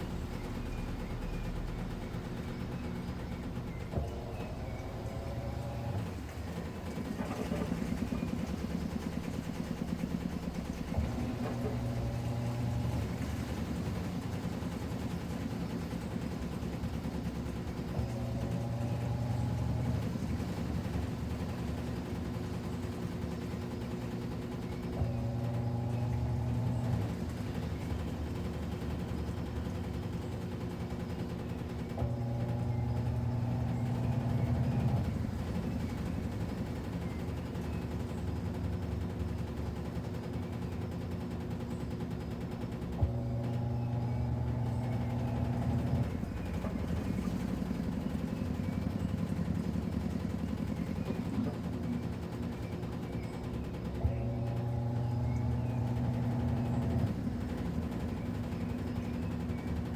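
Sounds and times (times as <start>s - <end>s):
washing machine motor humming: 0.0s - 59.9s.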